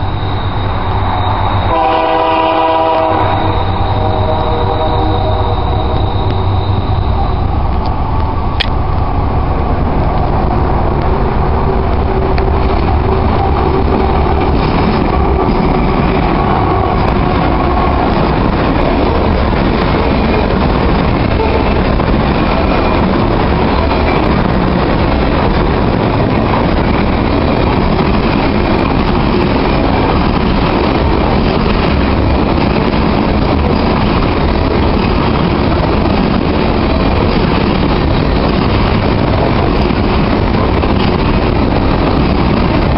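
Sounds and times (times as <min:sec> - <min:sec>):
diesel locomotive hum: 0:00.0 - 0:42.9
train wheels rumbling on rails: 0:00.0 - 0:42.9.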